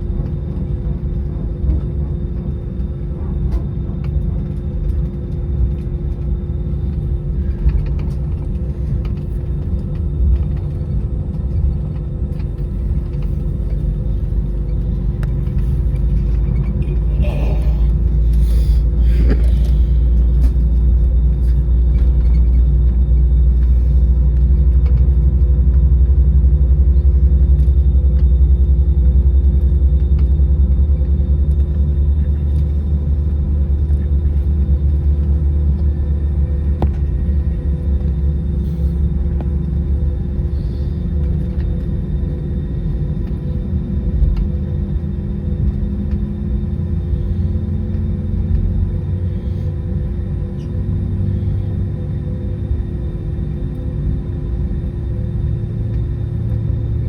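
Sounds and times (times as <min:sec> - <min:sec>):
faint engine hum: 0:00.0 - 0:57.0
jet engine rumble in cabin: 0:00.0 - 0:57.0.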